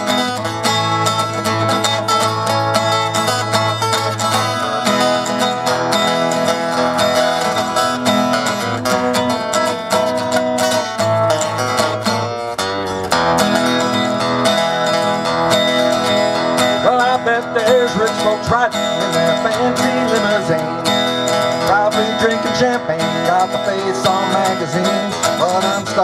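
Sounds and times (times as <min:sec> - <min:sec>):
country guitar music: 0:00.0 - 0:26.0.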